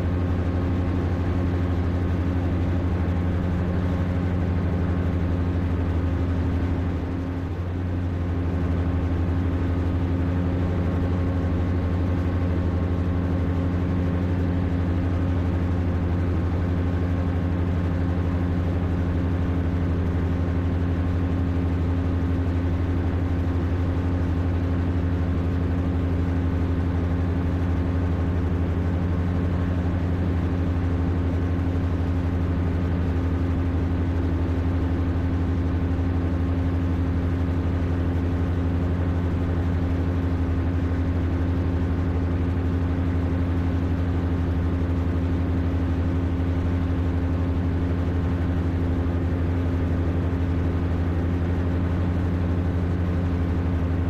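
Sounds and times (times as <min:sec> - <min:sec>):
microlight engine and propeller drone: 0:00.0 - 0:54.0.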